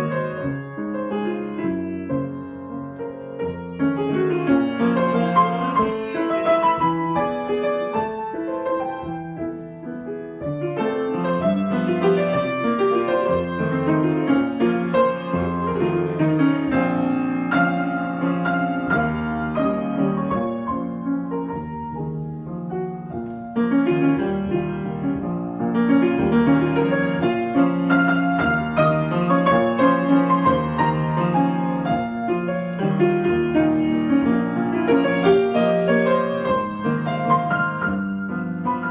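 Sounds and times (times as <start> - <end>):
solo piano: 0.0 - 38.9.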